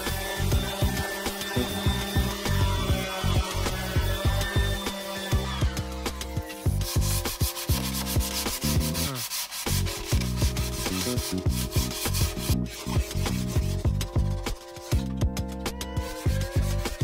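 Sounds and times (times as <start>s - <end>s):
sandpaper rubbing wood: 0.0s - 5.5s, 6.1s - 15.2s, 16.0s - 17.0s
background music with steady beat: 0.0s - 17.0s.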